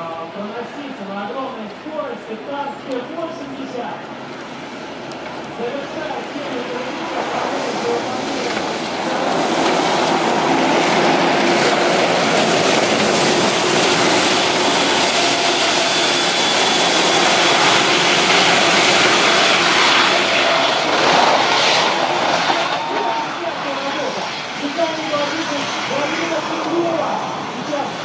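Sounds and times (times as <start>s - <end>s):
tank engine and track noise: 2.4s - 28.0s.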